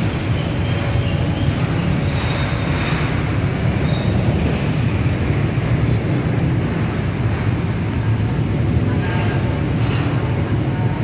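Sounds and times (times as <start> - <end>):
motorcycles passing: 0.0 - 11.0
road traffic rumble: 0.0 - 11.0.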